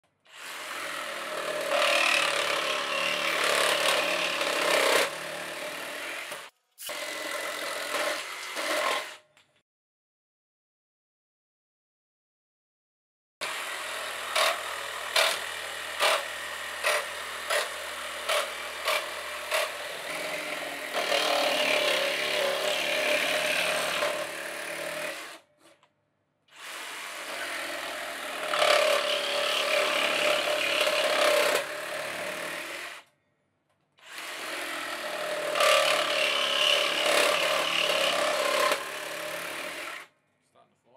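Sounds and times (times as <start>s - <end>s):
reciprocating saw cutting timber: 0.3s - 9.2s, 13.4s - 25.8s, 26.5s - 33.1s, 34.0s - 40.1s.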